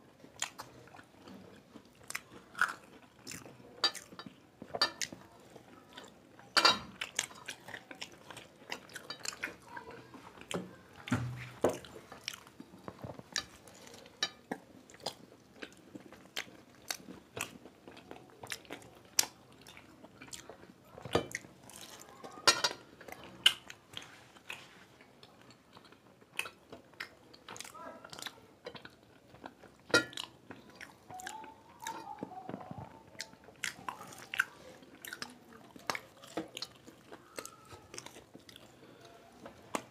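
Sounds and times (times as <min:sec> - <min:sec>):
people chewing crisp pastry: 0:00.0 - 0:39.9.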